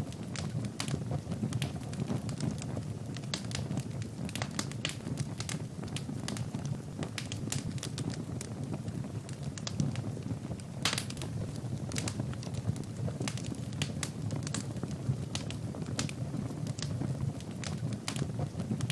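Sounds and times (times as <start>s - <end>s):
low rumble of flames: 0.0s - 18.9s
wood fire crackling and popping: 0.0s - 18.9s.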